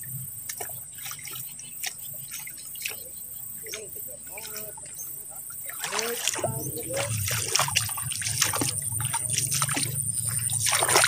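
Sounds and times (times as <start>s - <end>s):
footsteps splashing in shallow water: 0.0s - 11.0s.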